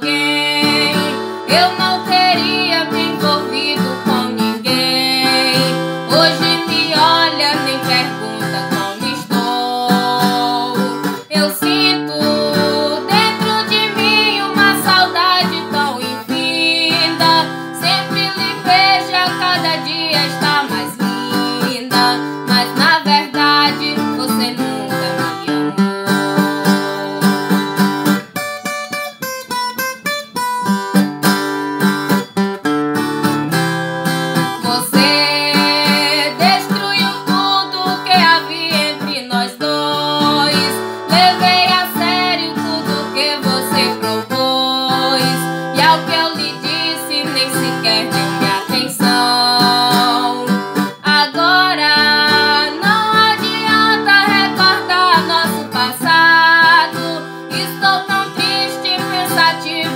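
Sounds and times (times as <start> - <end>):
resonator guitar strumming: 0.0 - 23.7, 30.8 - 59.9
woman singing: 0.0 - 28.2, 34.4 - 59.9.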